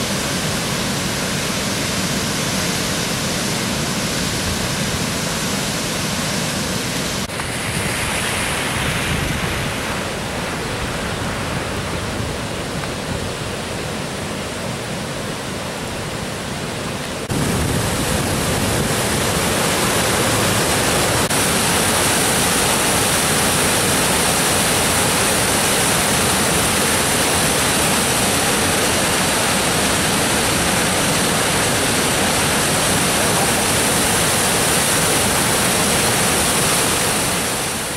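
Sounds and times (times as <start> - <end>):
water rushing over a dam: 0.0 - 37.9.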